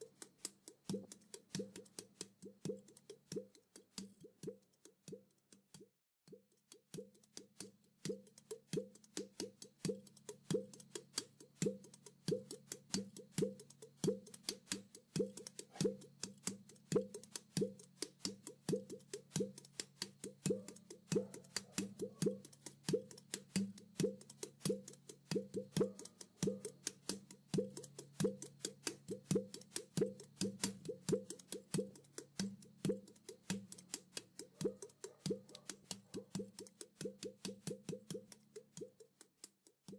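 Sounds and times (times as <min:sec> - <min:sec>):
clay pot drum played by hand: 0:00.0 - 0:05.8, 0:06.9 - 0:39.9.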